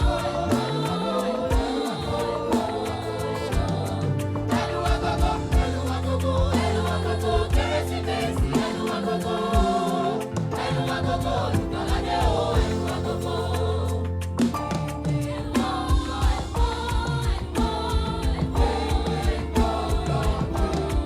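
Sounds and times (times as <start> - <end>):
bass line: 0.0 - 21.0
choir singing in harmony: 0.0 - 21.0
drum beats: 0.0 - 21.0.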